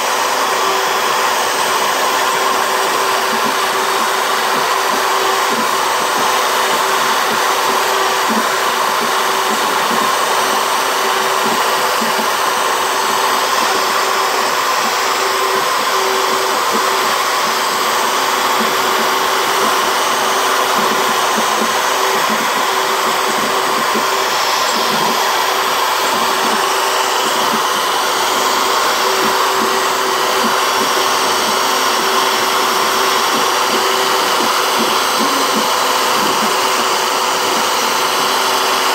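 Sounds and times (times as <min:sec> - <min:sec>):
bit cutting wood: 0:00.0 - 0:38.9
router spindle motor whine: 0:00.0 - 0:38.9.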